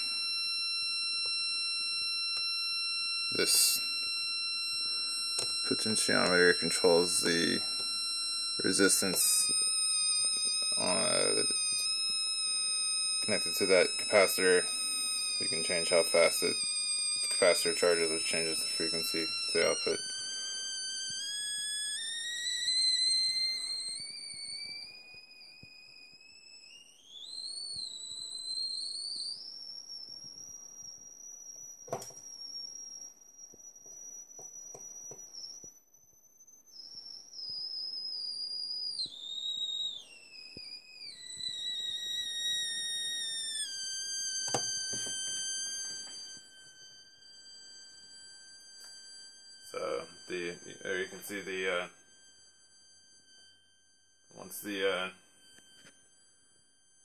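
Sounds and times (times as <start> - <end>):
high buzzy electronic whistle: 0.0 - 57.0.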